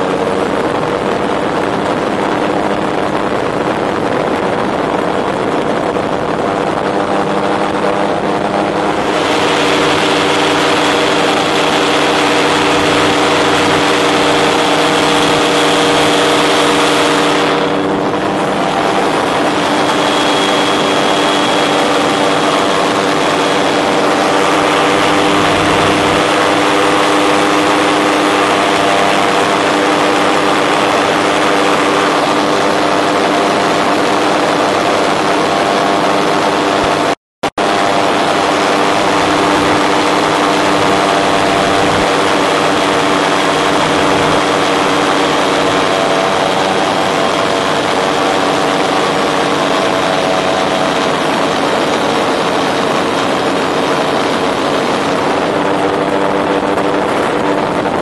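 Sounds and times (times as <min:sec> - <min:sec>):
aircraft engine running: 0:00.0 - 0:58.0
wind rushing: 0:00.0 - 0:58.0.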